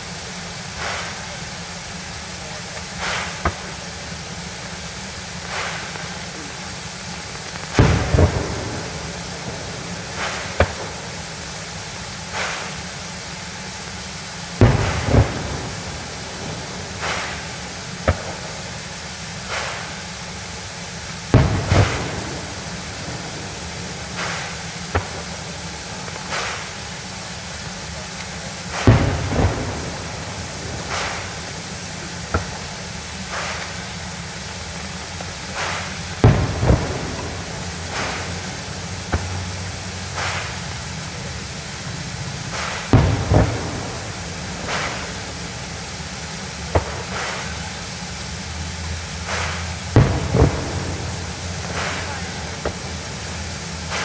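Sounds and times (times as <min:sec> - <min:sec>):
fireworks booming: 0:00.0 - 0:54.0
fireworks pops and cracks: 0:00.0 - 0:54.0
steady hiss: 0:00.0 - 0:54.0.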